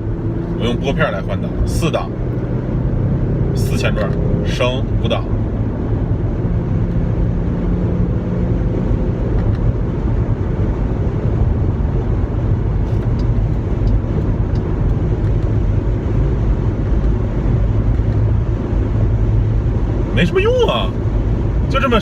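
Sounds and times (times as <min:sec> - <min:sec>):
car engine drone: 0:00.0 - 0:22.0
road and wind rumble: 0:00.0 - 0:22.0.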